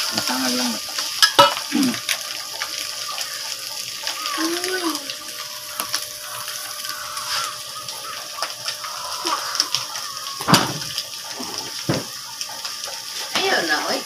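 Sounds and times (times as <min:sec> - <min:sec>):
meat sizzling in a wok: 0:00.0 - 0:14.0.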